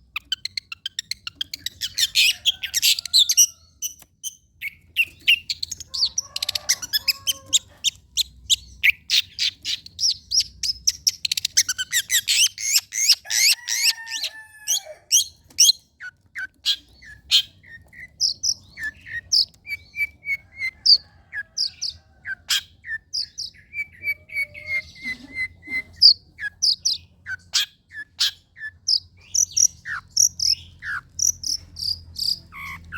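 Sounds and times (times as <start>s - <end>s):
bird singing high chirps and trills: 0.0s - 32.9s.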